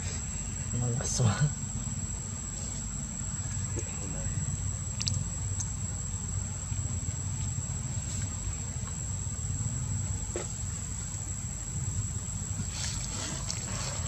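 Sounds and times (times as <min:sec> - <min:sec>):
constant low rumble: 0:00.0 - 0:14.0
high-pitched insect drone: 0:00.0 - 0:14.0.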